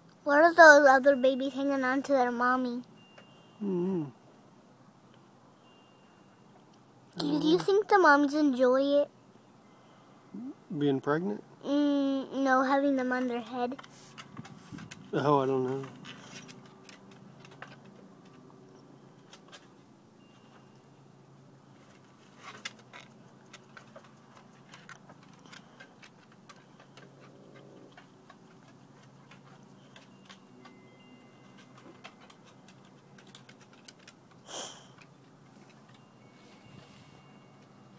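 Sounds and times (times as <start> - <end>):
rustle: 0.0 - 37.9.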